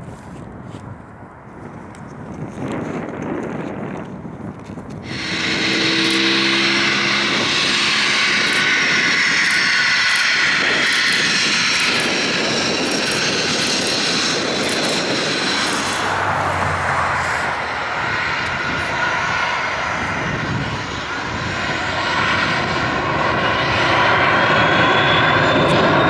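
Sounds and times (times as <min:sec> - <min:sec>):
jet engines whining: 0:04.8 - 0:26.0.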